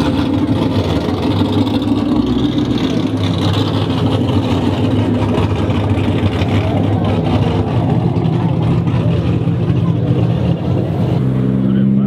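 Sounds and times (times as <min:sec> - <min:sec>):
car exhausts rumbling: 0:00.0 - 0:12.0.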